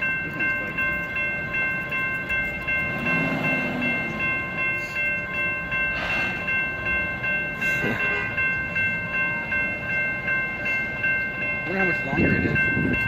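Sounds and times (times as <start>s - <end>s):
crossing bell ringing: 0.0s - 13.0s
freight train cars rumbling: 0.0s - 13.0s.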